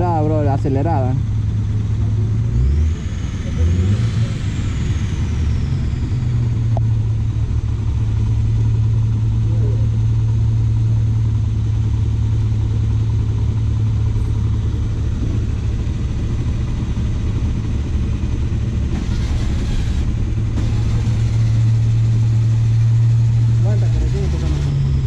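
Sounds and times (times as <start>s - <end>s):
motorcycle engine idling: 0.0s - 2.4s, 4.5s - 25.0s.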